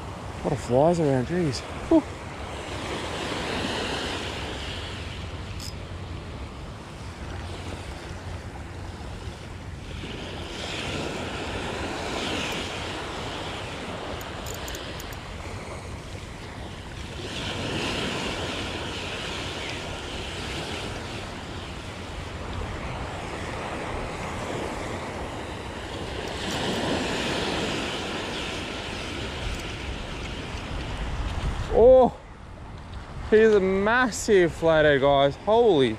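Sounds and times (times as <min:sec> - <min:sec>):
small waves washing on beach: 0:00.0 - 0:35.9
wind buffeting microphone: 0:01.3 - 0:34.0.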